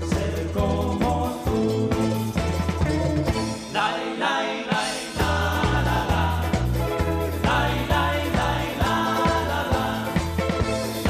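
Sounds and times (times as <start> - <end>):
band playing instrumental music: 0.0 - 11.0.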